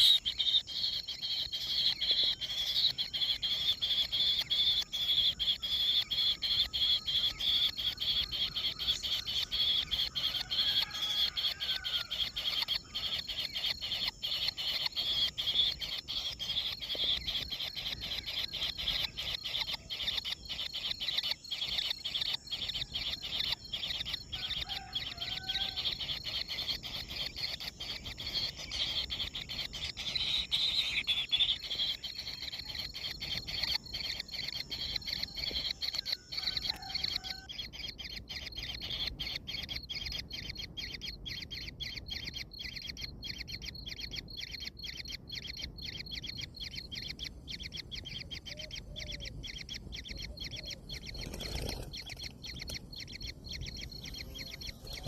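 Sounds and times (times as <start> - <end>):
chorus of rapid pulsing animal calls: 0.0 - 55.0.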